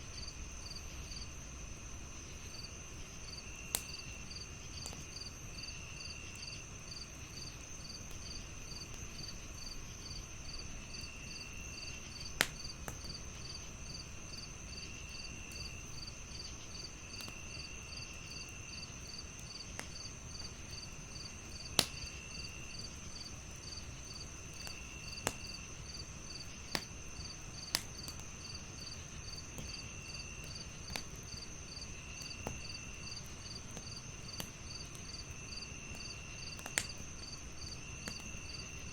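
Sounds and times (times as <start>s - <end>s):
crickets chirping: 0.0s - 38.9s
wood fire crackling: 3.1s - 5.5s, 6.1s - 38.9s.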